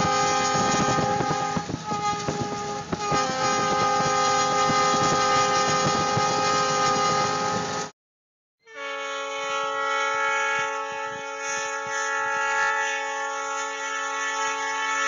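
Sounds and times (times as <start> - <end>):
diesel locomotive horn chord: 0.0 - 7.9, 8.6 - 15.0
train plowing through snow: 0.0 - 7.9, 8.9 - 15.0.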